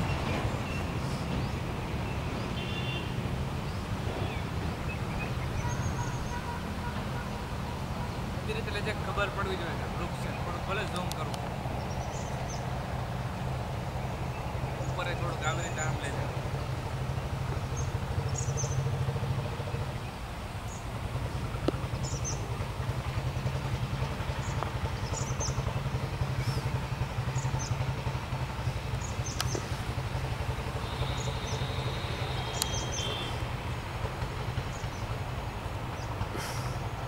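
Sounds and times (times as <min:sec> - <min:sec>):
birds chirping: 0:00.0 - 0:37.0
steady low rumble: 0:03.3 - 0:37.0.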